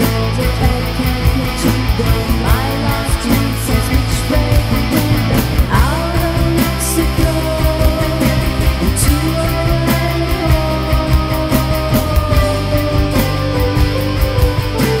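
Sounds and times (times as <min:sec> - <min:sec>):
rock band playing: 0:00.0 - 0:15.0
woman singing: 0:00.0 - 0:15.0.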